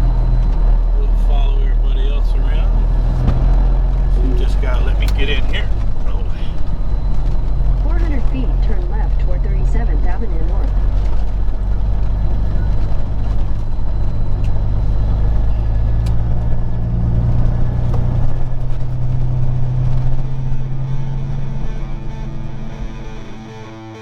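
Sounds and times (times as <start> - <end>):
truck diesel engine drone: 0.0 - 24.0.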